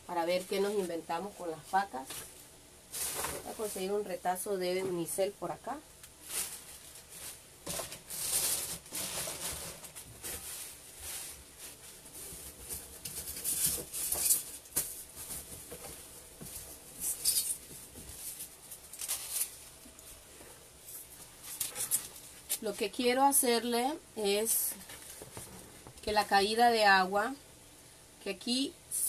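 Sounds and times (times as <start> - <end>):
rustling and crinkling: 0.1 - 23.6, 24.3 - 26.4.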